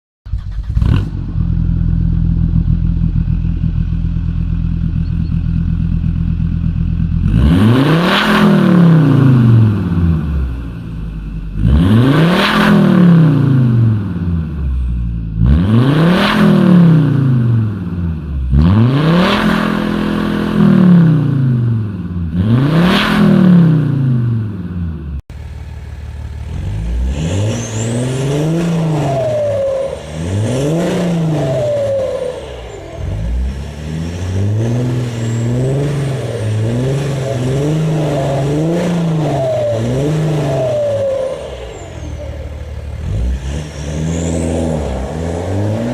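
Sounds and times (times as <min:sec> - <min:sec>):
diesel engine idling and revving: 0:00.3 - 0:45.9.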